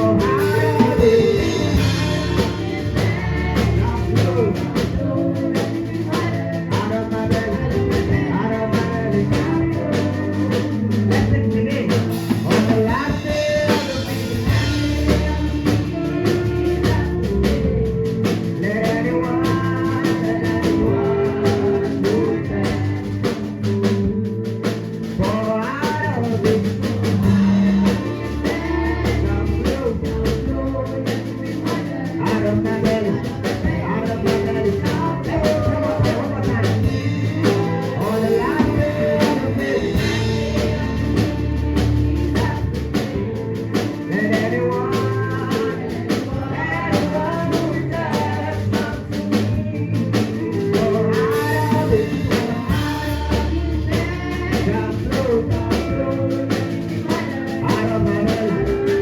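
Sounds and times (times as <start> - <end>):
gospel band playing: 0.0 - 59.0
person singing: 0.0 - 59.0.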